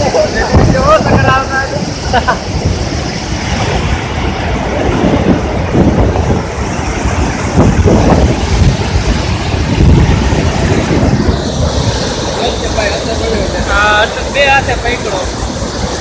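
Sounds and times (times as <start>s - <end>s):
water rushing through dam spillway: 0.0s - 16.0s.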